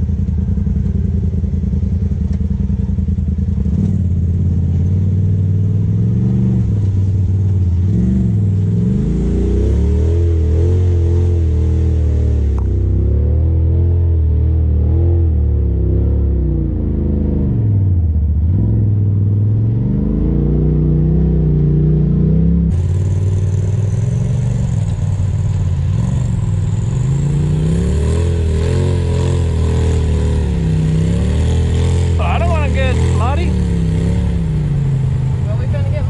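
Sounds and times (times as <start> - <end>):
side-by-side engine running: 0.0 - 36.0.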